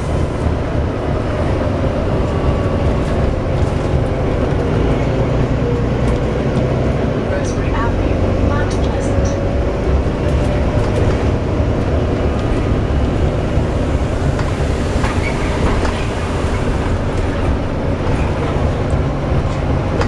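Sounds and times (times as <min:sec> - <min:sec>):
bus engine rumble: 0:00.0 - 0:20.0.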